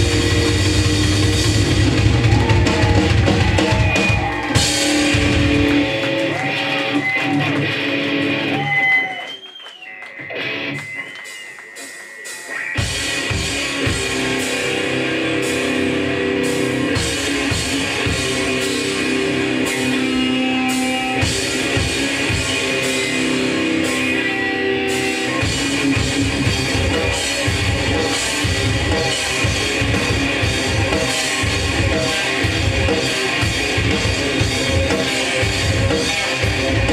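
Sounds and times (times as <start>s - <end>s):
fast drum kit: 0.0s - 8.3s, 11.2s - 36.9s
bass guitar: 0.0s - 9.1s, 12.6s - 36.9s
distorted electric guitars: 0.0s - 9.2s, 9.8s - 36.9s.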